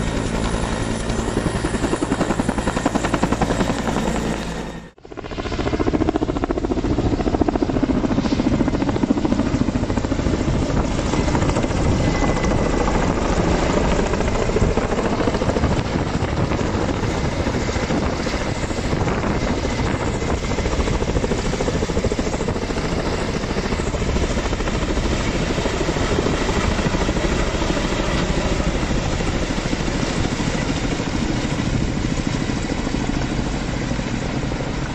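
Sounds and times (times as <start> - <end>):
helicopter rotor beating: 0.0 - 34.9.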